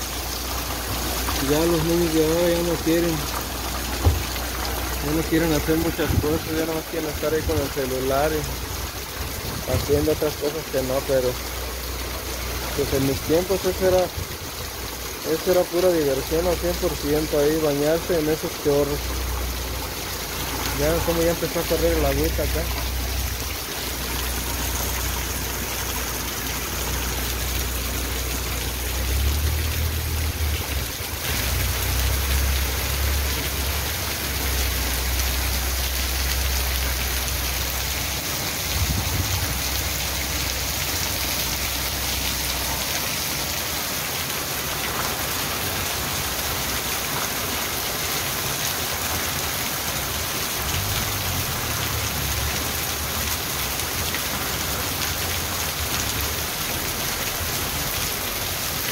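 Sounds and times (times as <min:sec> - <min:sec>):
heavy rain pouring: 0:00.0 - 0:58.9
water running off roof: 0:00.0 - 0:58.9.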